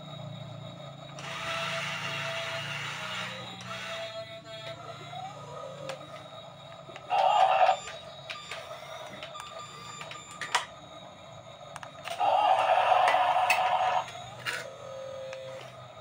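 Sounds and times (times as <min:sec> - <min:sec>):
toy gear motors whirring: 0:01.2 - 0:10.7, 0:11.8 - 0:15.8.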